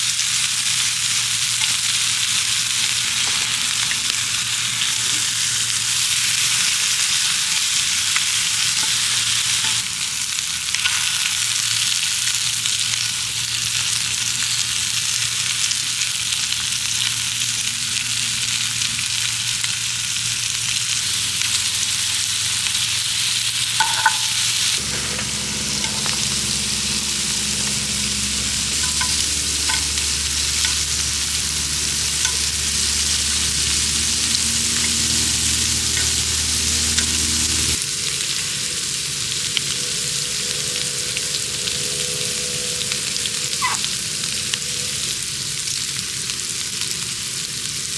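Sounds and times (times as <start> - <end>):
meat sizzling on a griddle: 0.0 - 47.9.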